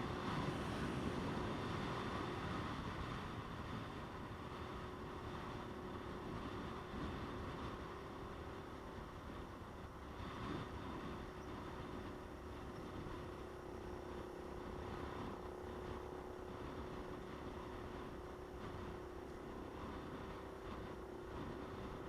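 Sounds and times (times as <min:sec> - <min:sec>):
motorcycle engine cruising: 0:00.0 - 0:22.0
wind and road noise: 0:00.0 - 0:22.0.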